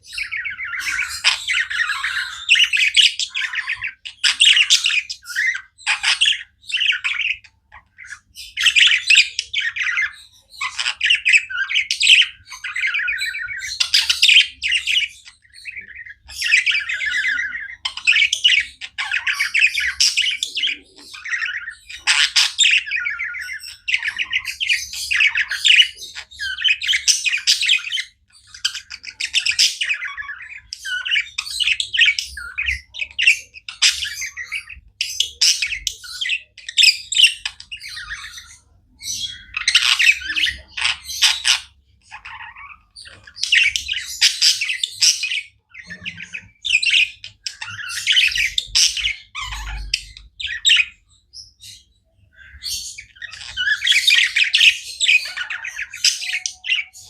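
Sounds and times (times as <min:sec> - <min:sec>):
budgies chirping and chattering: 0:00.0 - 0:57.0.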